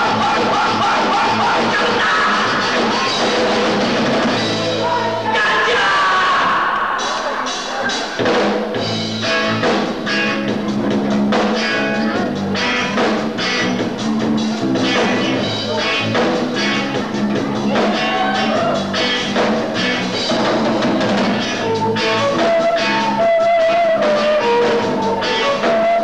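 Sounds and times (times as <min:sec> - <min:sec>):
live rock band: 0:00.0 - 0:26.0.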